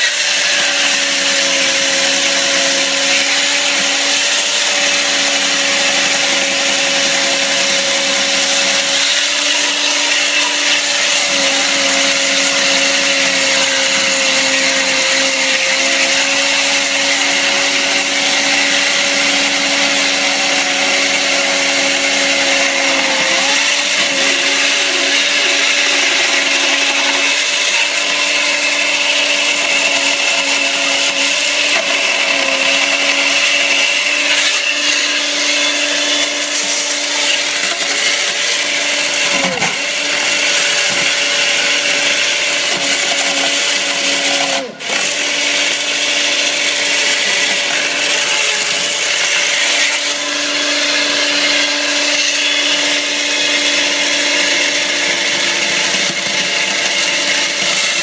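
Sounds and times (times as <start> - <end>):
chainsaw grinding concrete: 0.0 - 58.0.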